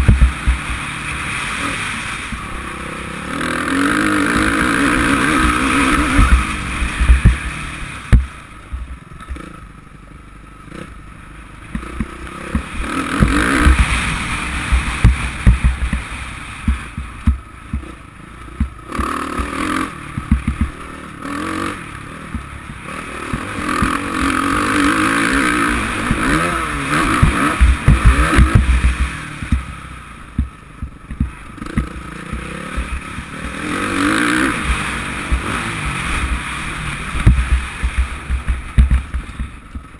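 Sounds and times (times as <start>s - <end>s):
knocks and clatter over bumps: 0.0s - 1.3s, 3.7s - 9.6s, 11.6s - 21.6s, 22.2s - 39.9s
motorcycle engine revving: 0.0s - 39.9s.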